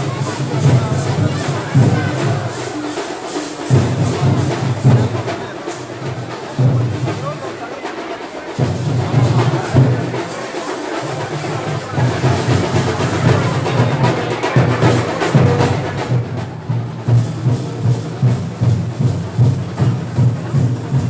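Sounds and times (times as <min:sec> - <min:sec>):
music with rhythmic drumming: 0:00.0 - 0:21.0.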